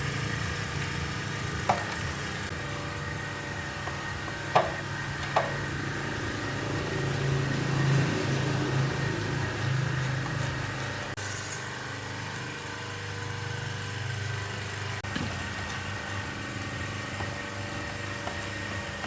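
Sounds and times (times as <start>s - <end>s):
pressure washer motor humming: 0.0s - 19.0s.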